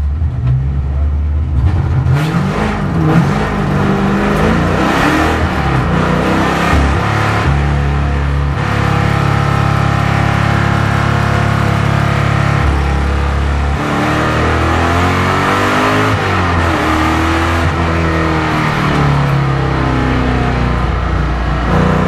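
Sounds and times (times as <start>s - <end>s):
race car engine at high revs: 1.5s - 22.0s.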